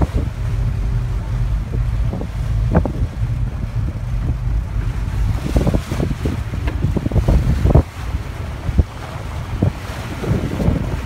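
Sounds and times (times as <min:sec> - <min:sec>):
diesel engine rumble: 0:00.0 - 0:11.0
wind buffeting microphone: 0:00.0 - 0:11.0.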